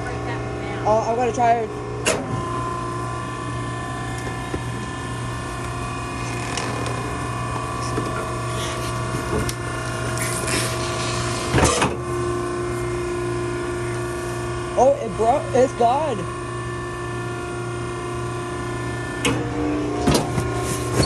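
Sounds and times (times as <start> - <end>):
baler motor and pump hum: 0.0 - 21.0.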